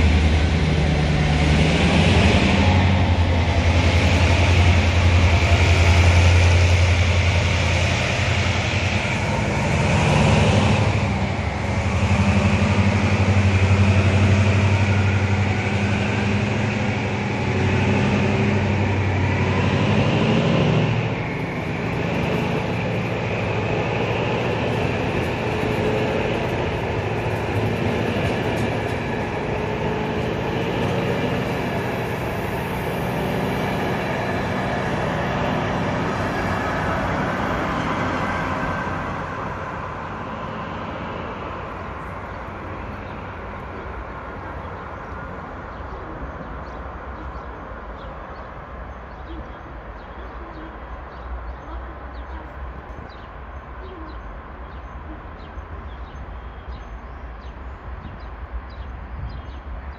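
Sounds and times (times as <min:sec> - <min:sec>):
wheels hissing on rail: 0:00.0 - 0:54.1
locomotive engine drone: 0:00.0 - 0:59.9.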